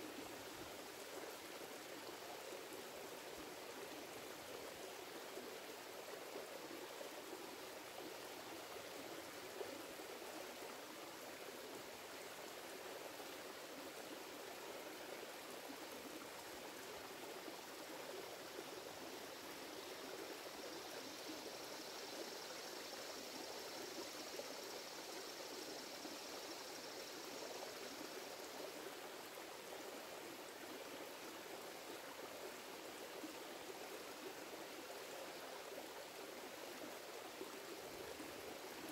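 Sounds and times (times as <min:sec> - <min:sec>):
creek flowing over rocks: 0:00.0 - 0:38.9
faint high hiss: 0:00.0 - 0:38.9.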